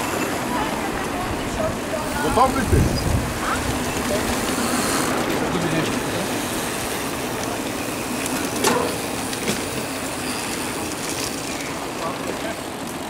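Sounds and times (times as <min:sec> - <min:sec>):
bikes rattling over cobblestones: 0:00.0 - 0:13.0.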